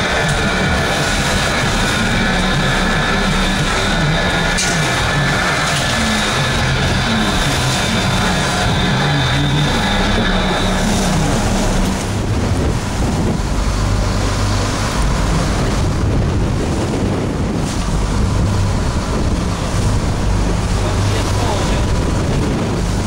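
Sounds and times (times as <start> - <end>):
boat engine humming: 0.0 - 23.0
waves washing against hull: 0.0 - 23.0
wind buffeting microphone: 0.0 - 23.0.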